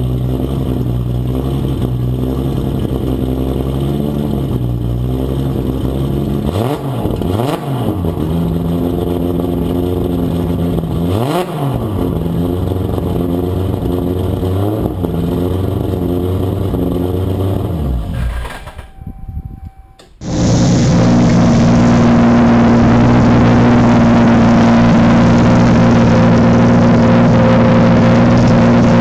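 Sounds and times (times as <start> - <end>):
car engine at high revs: 0.0 - 18.8, 20.2 - 29.0.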